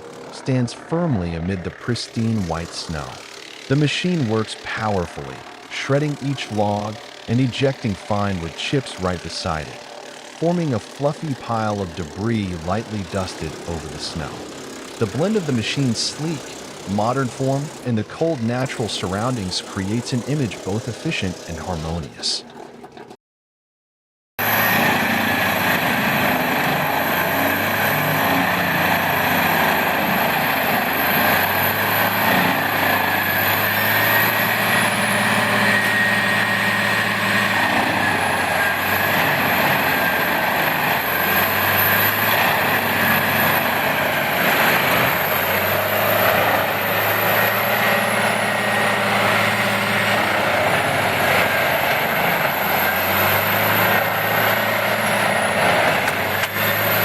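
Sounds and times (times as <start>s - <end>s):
high whine: 0.0s - 22.2s, 24.4s - 57.0s
wood chipper engine drone: 0.0s - 23.1s, 24.4s - 57.0s
wood shredding noise: 0.0s - 23.2s, 24.4s - 57.0s.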